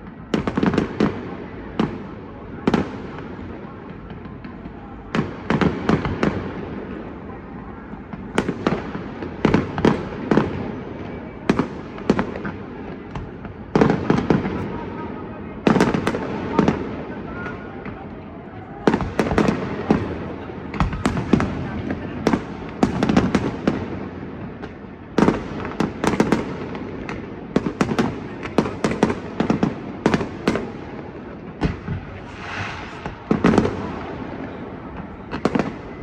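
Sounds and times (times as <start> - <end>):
fireworks bangs with rolling echo: 0.0 - 36.0.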